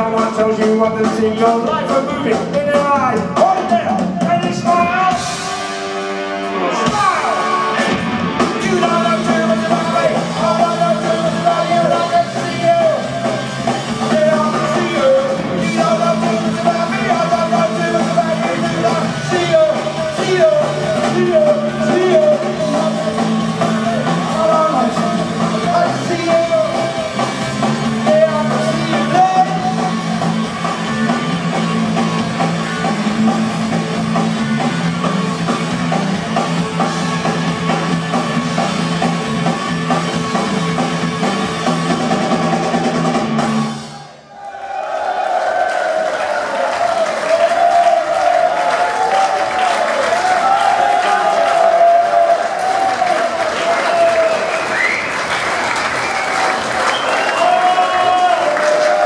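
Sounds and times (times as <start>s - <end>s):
live rock band playing: 0.0s - 44.2s, 46.7s - 59.0s.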